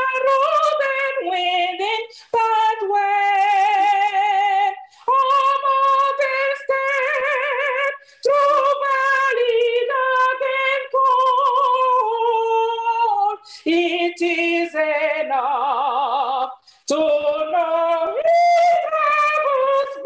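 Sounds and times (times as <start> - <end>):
woman singing a hymn: 0.0 - 20.0.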